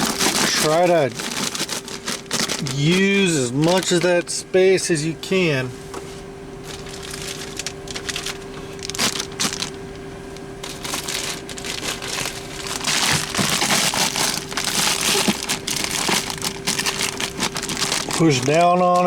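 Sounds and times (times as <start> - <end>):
plastic packaging crinkling: 0.0 - 4.3, 6.6 - 19.0
faint steady hum: 0.0 - 19.0.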